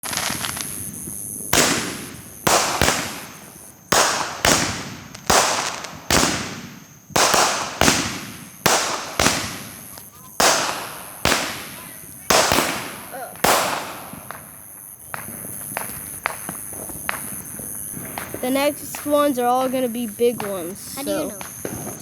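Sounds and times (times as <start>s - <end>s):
fireworks bangs with crackling tails: 0.0s - 22.0s.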